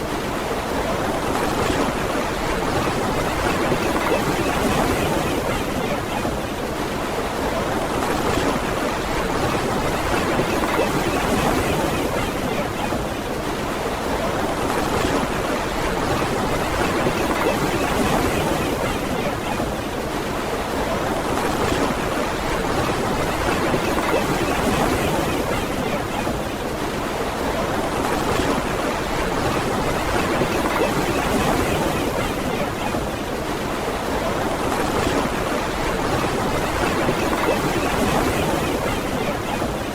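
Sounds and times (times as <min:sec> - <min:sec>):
ocean surf washing on beach: 0:00.0 - 0:39.9.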